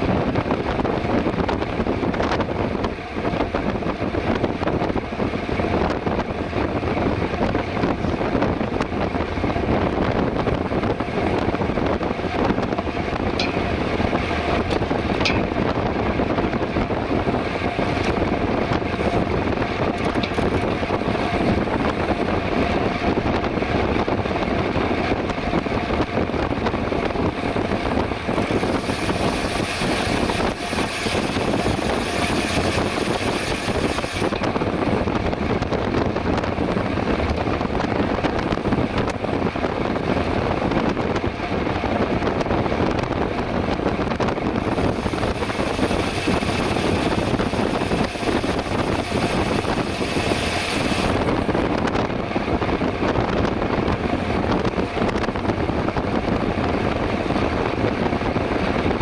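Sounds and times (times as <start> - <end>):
bike tyres on paved road: 0.0 - 59.0
wind on microphone: 0.0 - 59.0.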